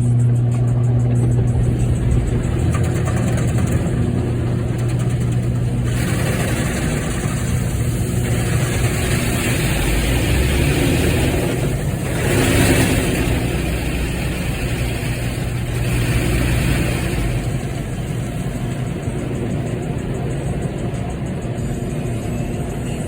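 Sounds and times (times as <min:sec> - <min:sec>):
car wash rumble: 0:00.0 - 0:23.0
car engine idling: 0:00.6 - 0:23.0
rushing scrubbing noise: 0:01.4 - 0:23.0.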